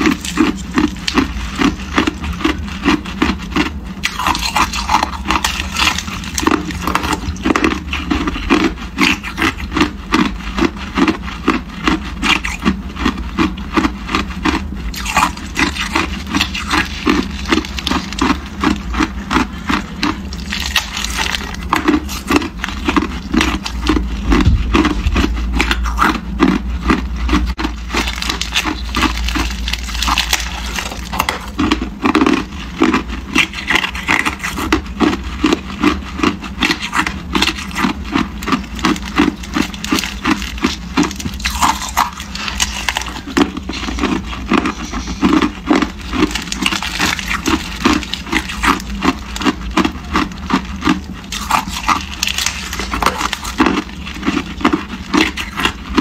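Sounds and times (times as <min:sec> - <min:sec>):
plastic bag crinkling: 0:00.0 - 0:26.0, 0:26.8 - 0:56.0
ice cubes crunching when chewed: 0:00.0 - 0:56.0.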